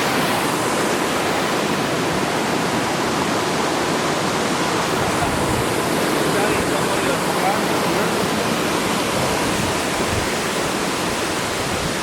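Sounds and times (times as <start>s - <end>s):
waterfall crashing: 0.0s - 12.0s.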